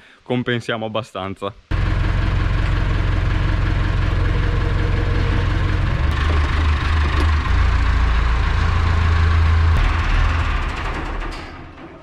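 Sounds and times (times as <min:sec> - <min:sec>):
tractor diesel engine idling: 0:01.7 - 0:11.6.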